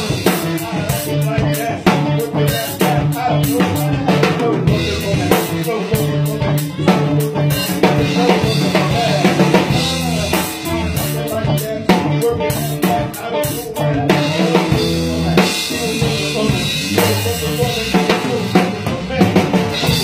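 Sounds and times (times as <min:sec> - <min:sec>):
drum kit groove: 0:00.0 - 0:20.0.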